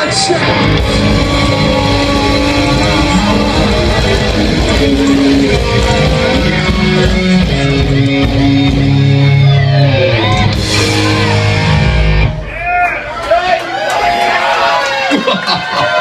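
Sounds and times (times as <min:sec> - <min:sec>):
live rock band playing: 0:00.0 - 0:13.2
bass guitar: 0:00.0 - 0:13.3
heavy electric guitar: 0:00.0 - 0:13.4
drums: 0:00.0 - 0:16.0.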